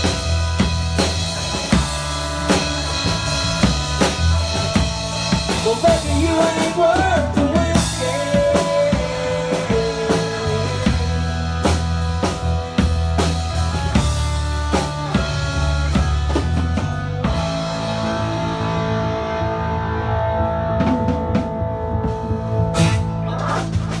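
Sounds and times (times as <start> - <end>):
country band playing live: 0.0 - 24.0.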